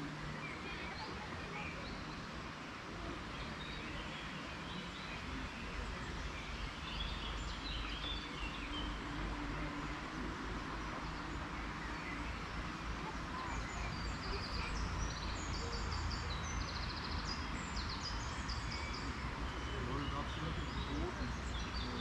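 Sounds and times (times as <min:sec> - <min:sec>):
outdoor background hiss: 0:00.0 - 0:22.0
songbirds singing: 0:00.0 - 0:22.0.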